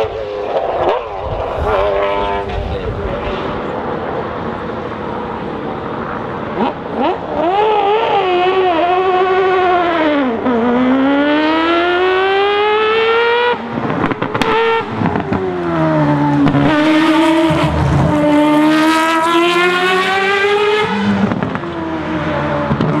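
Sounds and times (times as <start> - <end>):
racing car engine revving: 0.0 - 23.0.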